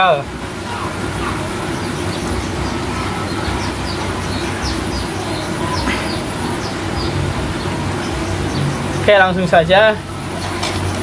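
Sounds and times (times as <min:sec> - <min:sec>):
road traffic rumble: 0:00.0 - 0:11.0
small birds chirping: 0:00.0 - 0:11.0.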